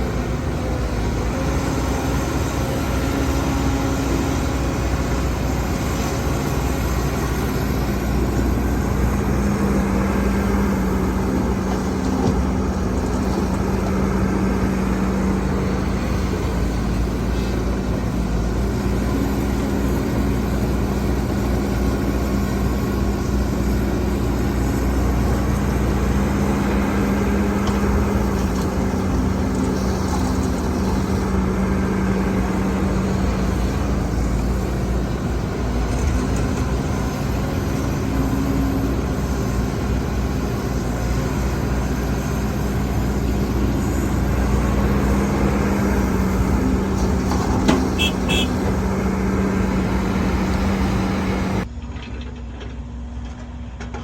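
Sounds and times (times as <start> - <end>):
heavy diesel engine running: 0.0 - 53.6.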